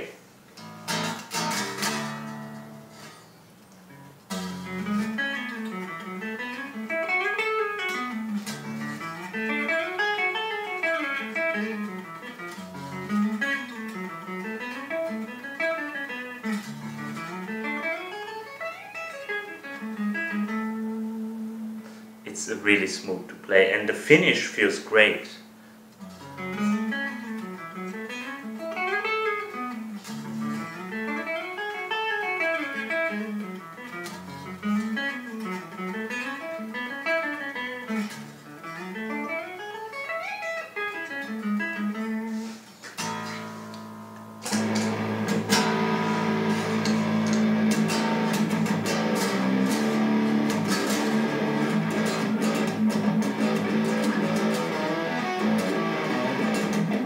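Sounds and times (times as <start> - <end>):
electric guitar through an amp: 0.0 - 57.0.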